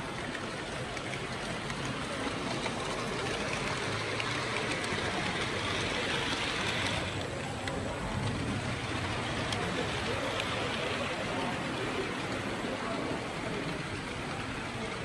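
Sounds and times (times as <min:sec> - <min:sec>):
murmur of voices: 0:00.0 - 0:15.0
room noise: 0:00.0 - 0:15.0.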